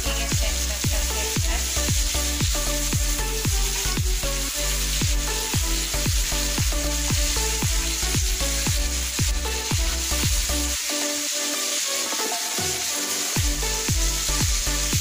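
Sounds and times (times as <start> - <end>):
electronic music with thudding beat: 0.0 - 15.0
fish sizzling in oil: 0.0 - 15.0
spatula turning fish: 0.2 - 15.0.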